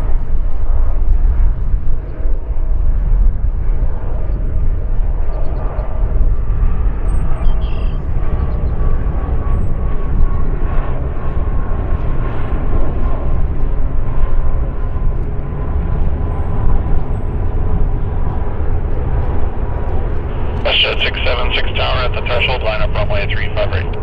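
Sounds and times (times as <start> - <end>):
jet aircraft engines running: 0.0 - 24.0.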